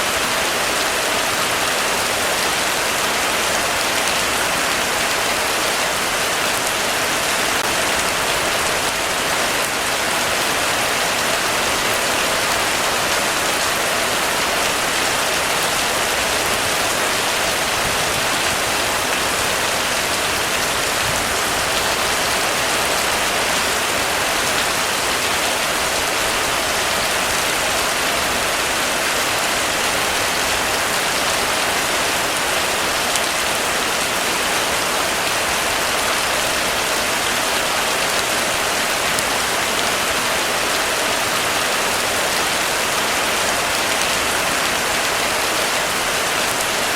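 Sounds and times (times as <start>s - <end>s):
heavy rain on a roof: 0.0s - 46.9s.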